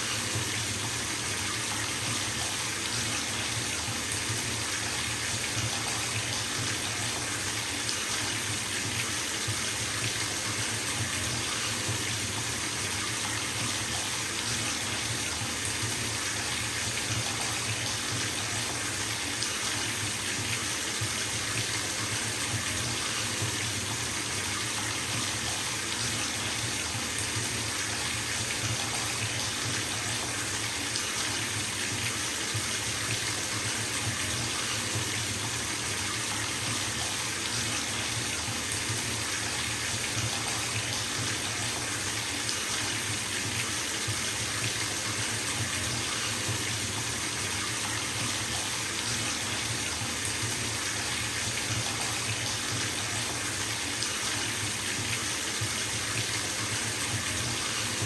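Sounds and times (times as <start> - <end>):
water running into bathtub: 0.0 - 58.0.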